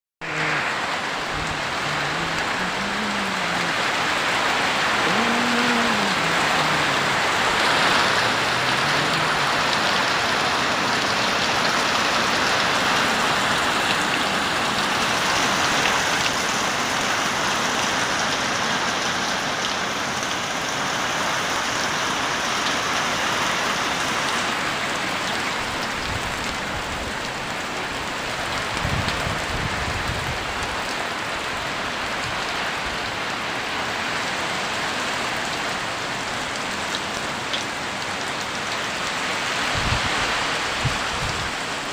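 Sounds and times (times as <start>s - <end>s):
rain pattering: 0.2s - 41.9s.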